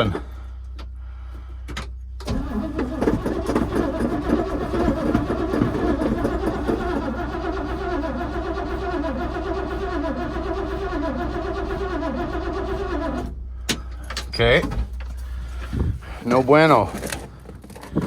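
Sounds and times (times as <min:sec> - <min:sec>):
truck engine cranking without starting: 0:00.0 - 0:00.4, 0:02.2 - 0:18.0.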